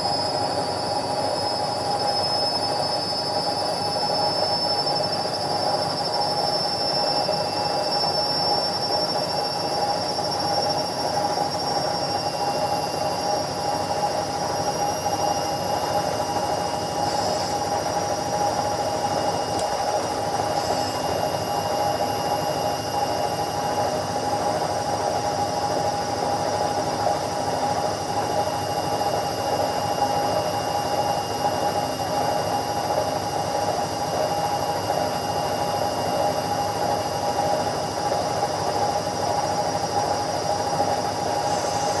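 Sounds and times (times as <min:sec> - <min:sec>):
washing machine spinning: 0:00.0 - 0:42.0.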